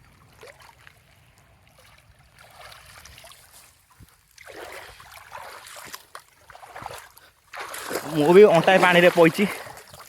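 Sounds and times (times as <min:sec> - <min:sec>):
river water trickling: 0:00.0 - 0:10.0.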